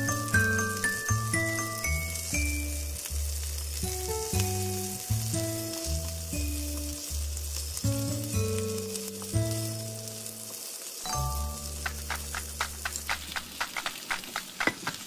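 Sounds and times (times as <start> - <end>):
plucked tune background music: 0.0 - 10.5, 11.1 - 13.1
food sizzling in a frying pan: 0.0 - 15.0.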